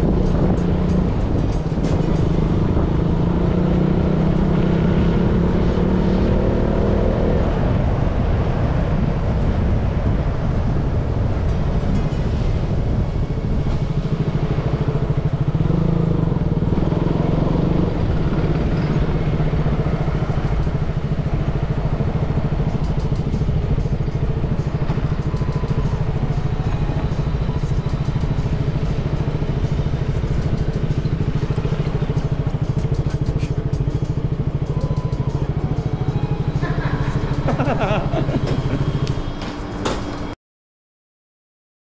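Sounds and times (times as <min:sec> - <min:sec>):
motorcycle engine running: 0:00.0 - 0:40.4.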